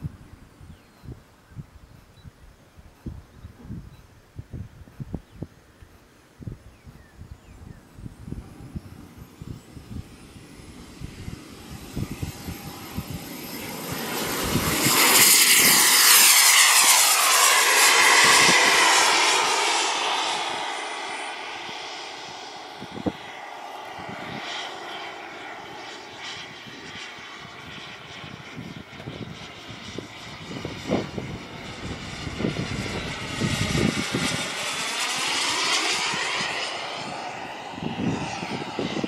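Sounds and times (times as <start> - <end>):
model jet engine whine: 2.7 - 39.0.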